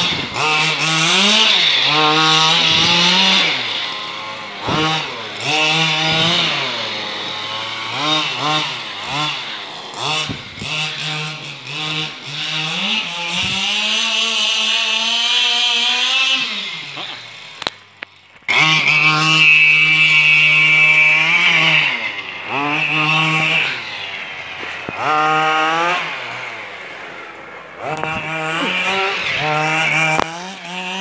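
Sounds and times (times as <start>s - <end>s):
small petrol engine buzzing: 0.0s - 31.0s.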